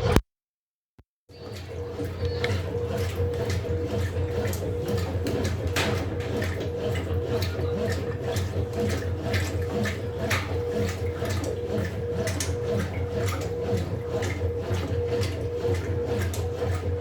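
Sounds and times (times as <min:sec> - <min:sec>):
washing machine motor hum: 0:01.3 - 0:17.0
water sloshing in drum: 0:01.3 - 0:17.0.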